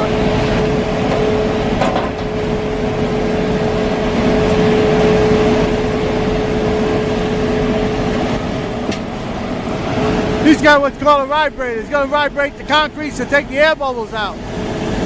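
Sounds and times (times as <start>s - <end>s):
concrete mixer truck droning: 0.0s - 15.0s.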